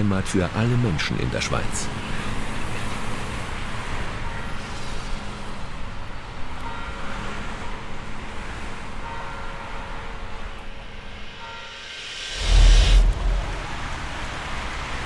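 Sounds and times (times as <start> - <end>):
road traffic rumble and hiss: 0.0 - 15.0.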